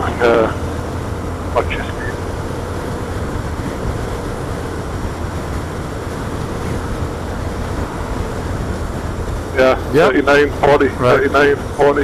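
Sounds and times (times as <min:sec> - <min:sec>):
motorcycle engine drone: 0:00.0 - 0:12.0
road noise: 0:00.0 - 0:12.0
wind rush: 0:00.0 - 0:12.0.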